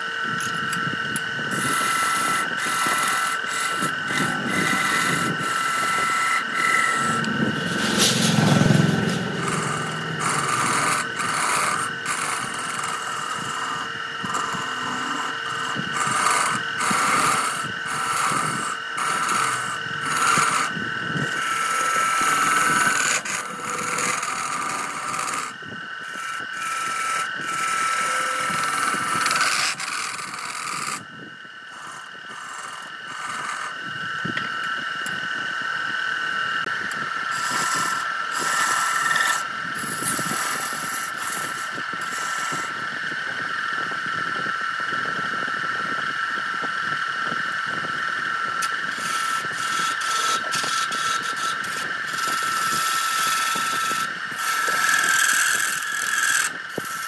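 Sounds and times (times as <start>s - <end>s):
chisel scraping spinning wood: 0.0s - 43.6s, 48.0s - 57.0s
wood lathe whine: 0.0s - 57.0s.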